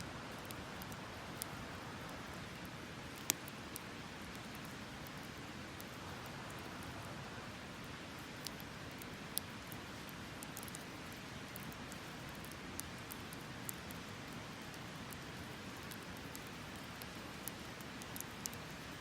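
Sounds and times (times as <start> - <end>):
wood fire crackling: 0.3 - 7.1, 7.9 - 19.0.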